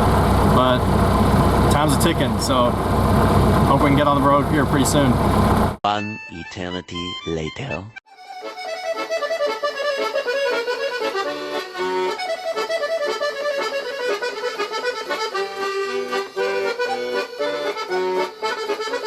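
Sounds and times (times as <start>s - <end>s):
lively accordion music: 1.6s - 2.8s, 3.7s - 5.1s, 5.9s - 19.0s.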